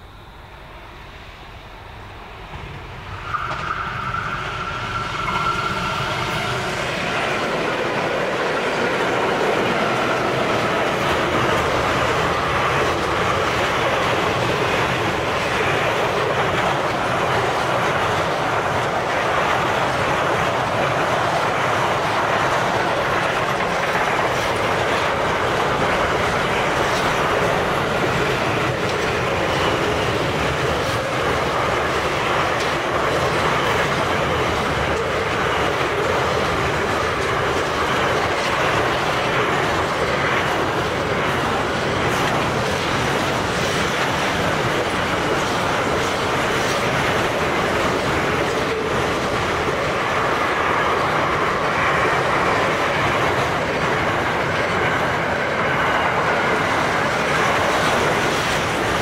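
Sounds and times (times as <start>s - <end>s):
train wheels on rail: 0.0s - 59.0s.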